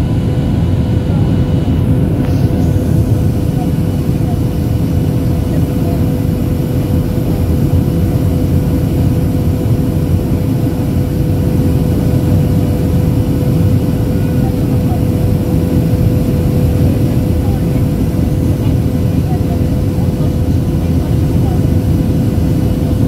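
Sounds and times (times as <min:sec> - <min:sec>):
airplane engine rumble and airflow: 0:00.0 - 0:23.0
steady mid-pitched hum: 0:00.0 - 0:23.0.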